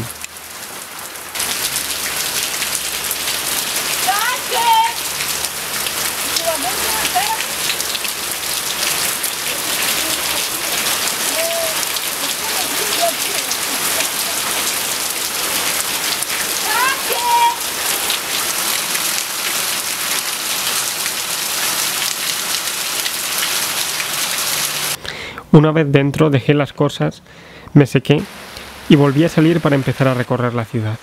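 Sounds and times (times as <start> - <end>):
rain on a cobbled street: 0.0 - 25.3, 28.2 - 31.0.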